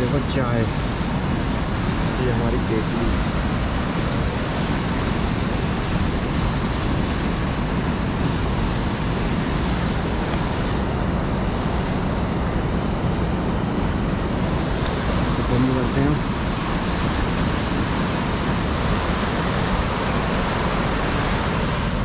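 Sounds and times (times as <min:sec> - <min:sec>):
river rushing over rocks: 0:03.2 - 0:22.0.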